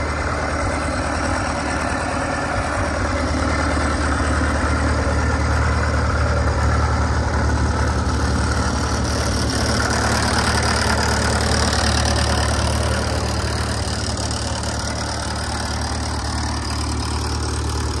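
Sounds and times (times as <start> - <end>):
diesel tractor engine idling: 0.0 - 18.0.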